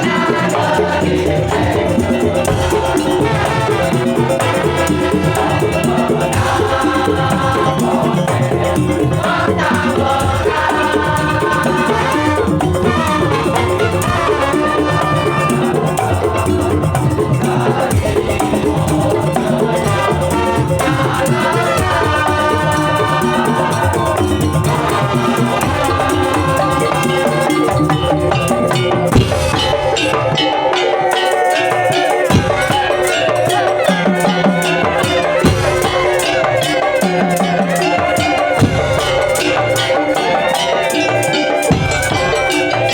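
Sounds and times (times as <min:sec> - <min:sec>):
percussion ensemble playing: 0:00.0 - 0:42.9.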